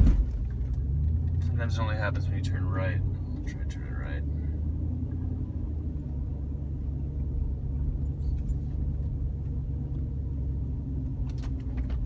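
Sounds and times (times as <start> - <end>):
car engine rumble: 0.0 - 12.0
road noise inside car: 0.0 - 12.0.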